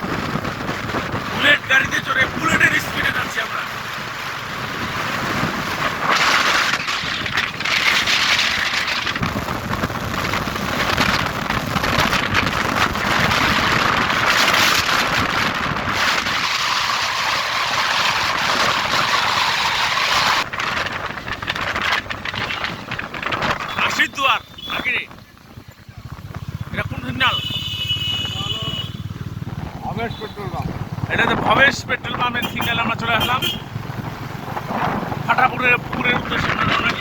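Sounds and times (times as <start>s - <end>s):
wind buffeting microphone: 0.0s - 3.2s, 4.0s - 23.9s, 28.0s - 37.0s
motorcycle engine: 0.0s - 37.0s.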